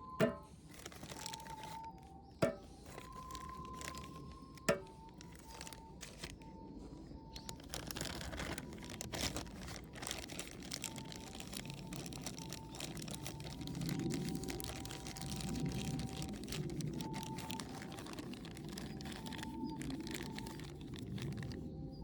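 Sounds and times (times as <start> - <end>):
dense crackling: 0.0 - 21.6.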